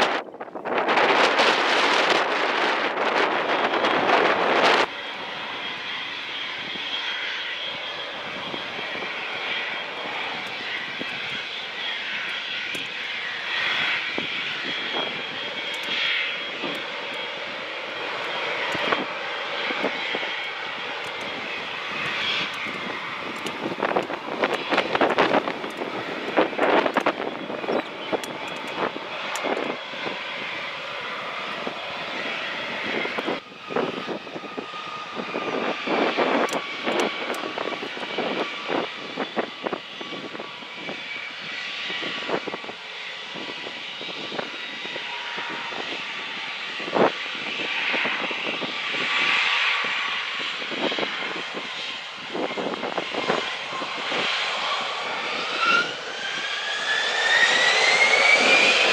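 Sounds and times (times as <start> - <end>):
jet engines whining: 0.0 - 58.9
wind buffeting microphone: 0.0 - 58.9.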